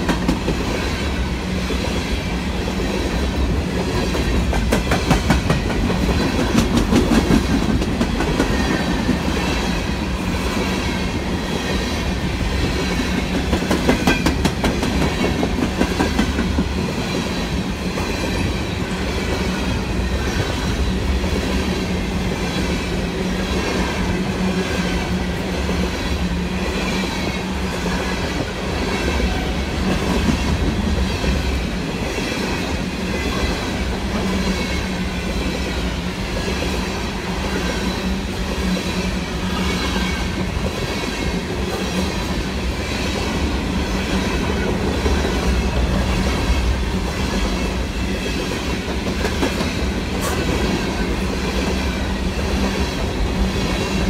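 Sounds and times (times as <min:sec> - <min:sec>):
train wheels rumbling on rail: 0:00.0 - 0:54.0
wheels clickety-clack: 0:02.8 - 0:54.0.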